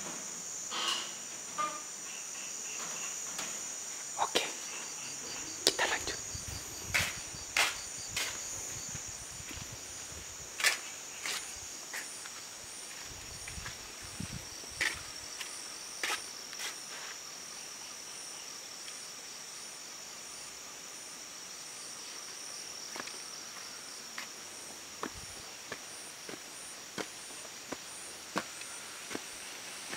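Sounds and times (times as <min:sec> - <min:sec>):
crickets trilling: 0:00.0 - 0:29.9.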